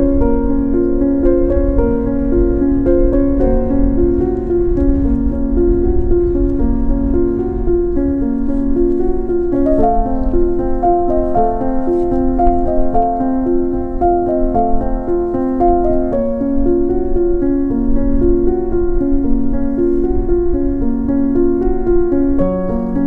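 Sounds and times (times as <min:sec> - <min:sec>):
calm piano music: 0:00.0 - 0:23.0.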